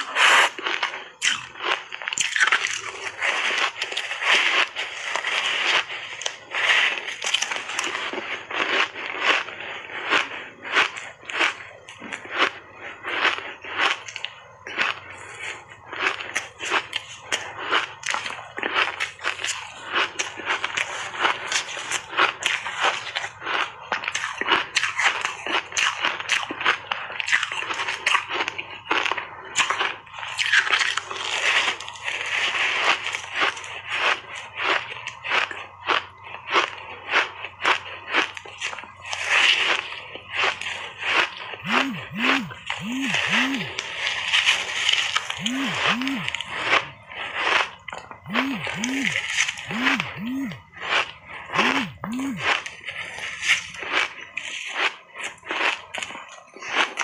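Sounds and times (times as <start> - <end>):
ice crunching between teeth: 0.0 - 57.0.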